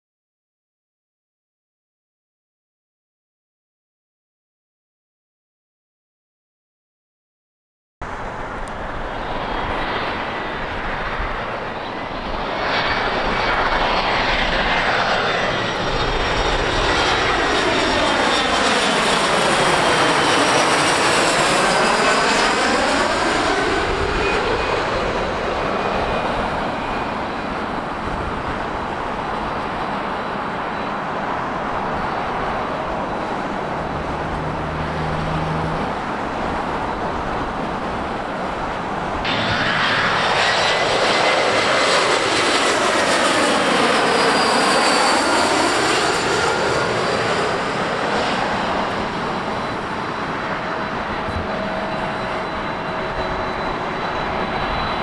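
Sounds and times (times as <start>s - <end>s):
jet airliners passing overhead: 8.0s - 55.0s.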